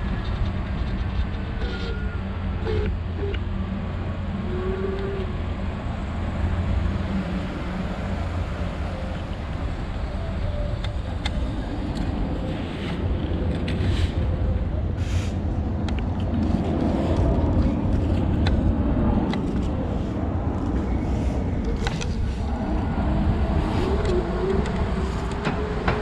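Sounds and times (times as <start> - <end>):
scooter road noise: 0.0 - 26.0
wind rumble on microphone: 0.0 - 26.0.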